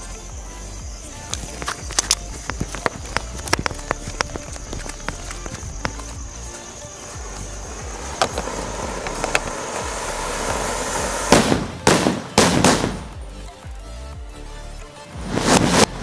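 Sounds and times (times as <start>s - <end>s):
firecrackers banging: 0.0s - 13.4s, 15.2s - 16.0s
fountain firework hissing: 0.0s - 13.5s.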